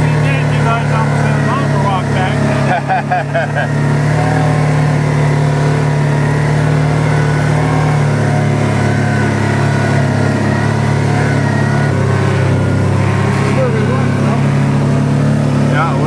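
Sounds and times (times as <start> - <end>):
utility vehicle engine droning: 0.0 - 16.0.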